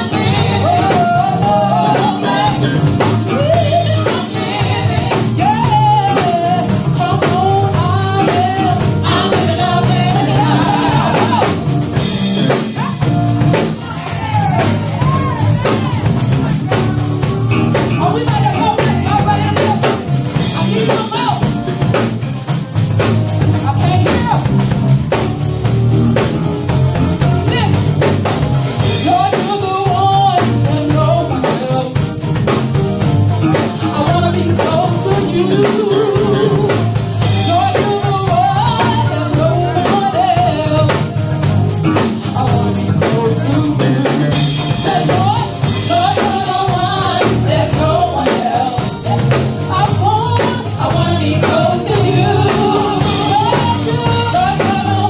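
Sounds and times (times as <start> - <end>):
woman singing gospel: 0.0 - 21.5, 28.8 - 32.5, 33.3 - 55.0
band accompaniment: 0.0 - 55.0
bass: 0.0 - 55.0
drum kit: 0.0 - 55.0.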